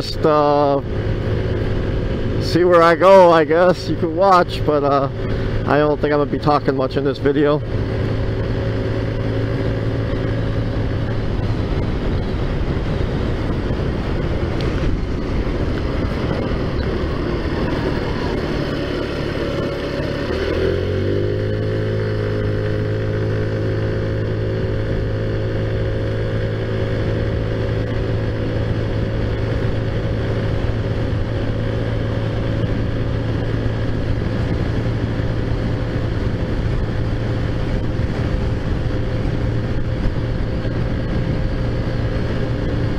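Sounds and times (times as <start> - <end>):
scooter engine running: 0.0 - 42.9.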